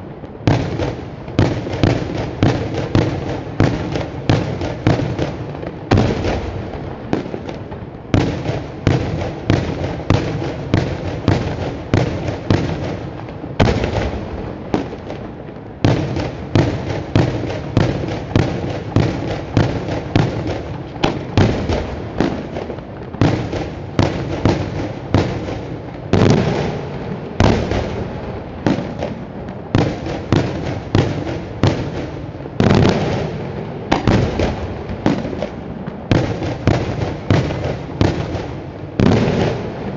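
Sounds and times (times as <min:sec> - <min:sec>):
fireworks bursts with echo: 0:00.0 - 0:39.9.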